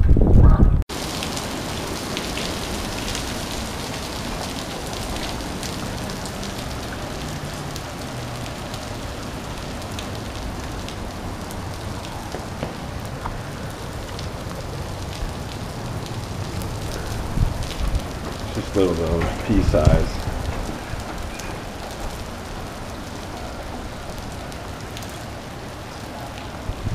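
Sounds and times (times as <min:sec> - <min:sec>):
hail ticking on ground: 0:00.9 - 0:26.9
rain on concrete: 0:00.9 - 0:26.9.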